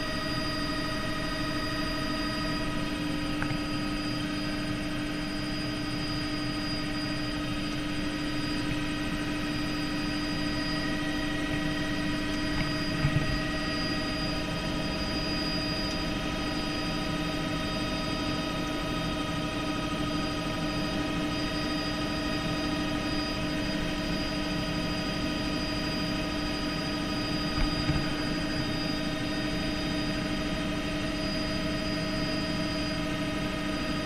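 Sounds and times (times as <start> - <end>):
helicopter engine and rotor: 0.0 - 34.0.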